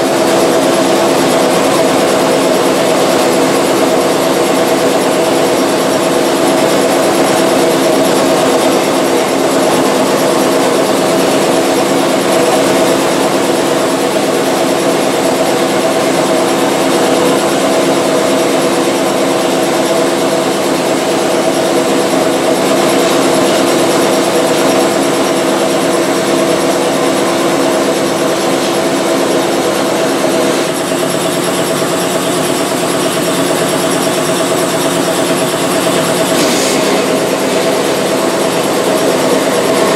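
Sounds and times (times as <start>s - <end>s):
machine motor hum: 0.0s - 39.9s.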